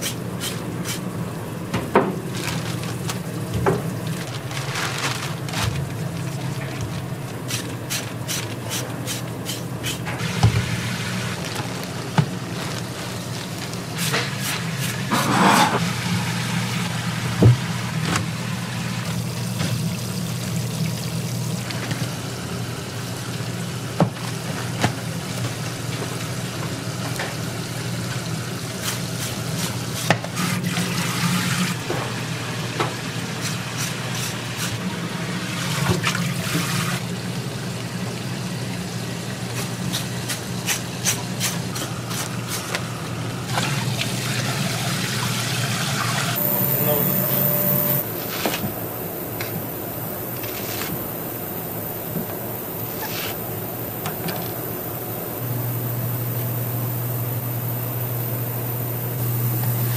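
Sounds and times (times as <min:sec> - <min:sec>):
water running in a sink: 0:00.0 - 0:48.3.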